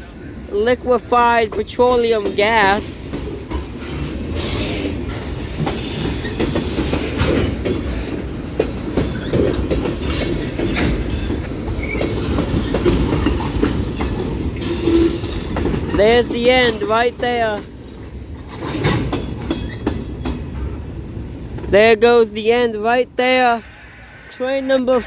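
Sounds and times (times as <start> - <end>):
train wheels rumbling on rail: 0.0 - 24.8
clickety-clack of rail joints: 0.4 - 22.1.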